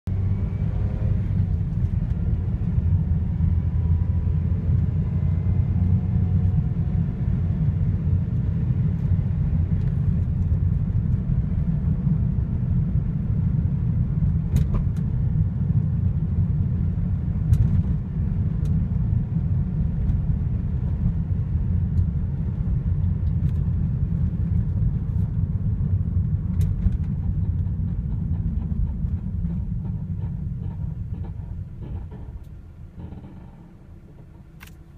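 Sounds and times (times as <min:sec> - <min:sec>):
car road rumble: 0:00.1 - 0:34.9.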